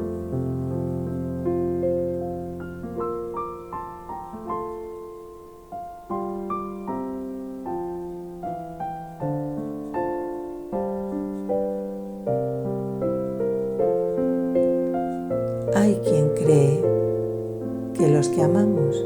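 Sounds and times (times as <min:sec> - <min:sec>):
soft piano music: 0:00.0 - 0:19.0.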